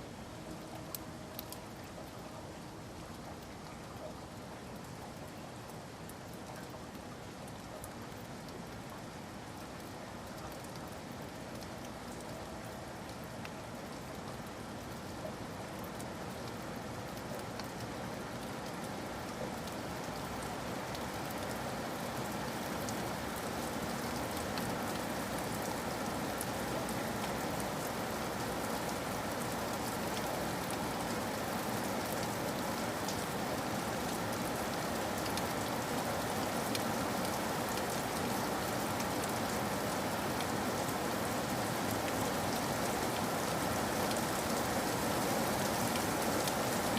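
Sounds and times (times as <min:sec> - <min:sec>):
rain hissing in forest: 0:00.0 - 0:46.9
raindrops ticking: 0:00.4 - 0:39.8.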